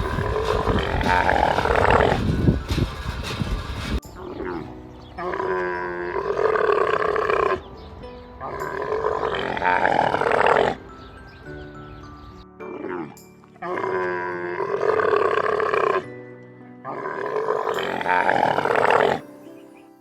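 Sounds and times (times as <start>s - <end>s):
background music with held notes: 0.0s - 20.0s.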